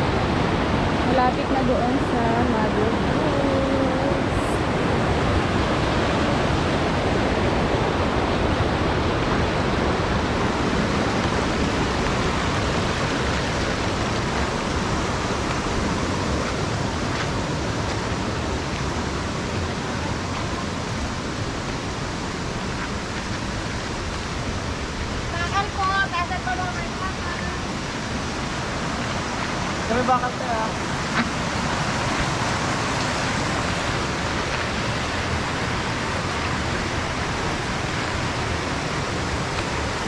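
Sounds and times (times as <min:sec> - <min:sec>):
flowing water rushing: 0:00.0 - 0:40.0.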